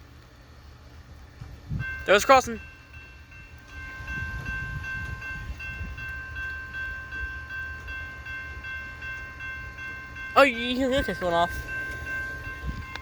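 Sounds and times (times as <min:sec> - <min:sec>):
train rumble: 0:00.0 - 0:13.0
railroad crossing bell ringing: 0:01.8 - 0:13.0.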